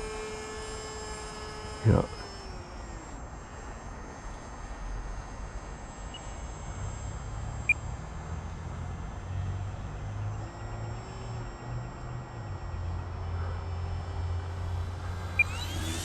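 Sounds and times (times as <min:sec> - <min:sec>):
model airplane motor whine: 0:00.0 - 0:16.0.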